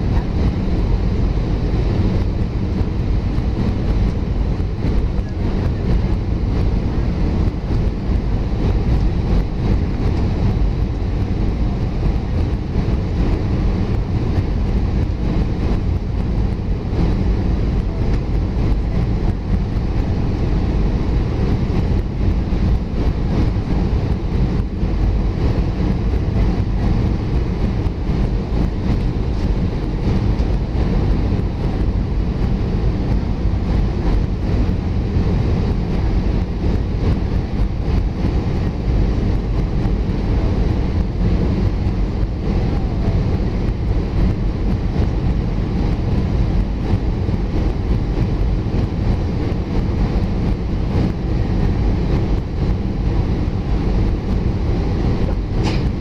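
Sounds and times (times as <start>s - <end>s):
jet engine and airflow rumble: 0.0s - 56.0s.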